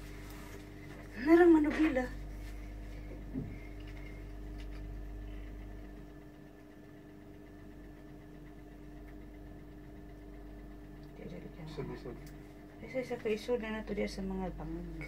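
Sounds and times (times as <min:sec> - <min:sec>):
mechanical motor hum: 0:00.0 - 0:15.0.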